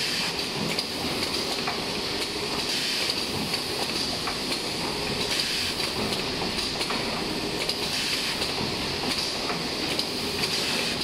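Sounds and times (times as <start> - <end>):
machine clattering and clicking: 0.2 - 11.0.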